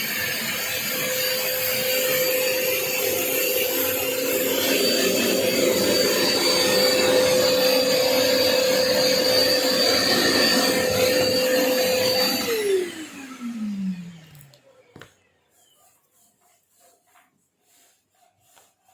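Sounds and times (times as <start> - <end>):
vacuum cleaner motor whine: 0.0 - 15.7.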